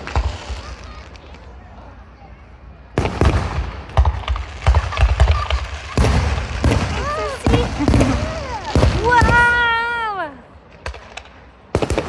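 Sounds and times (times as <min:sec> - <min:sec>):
fireworks banging and crackling: 0:00.0 - 0:01.6, 0:02.9 - 0:12.0.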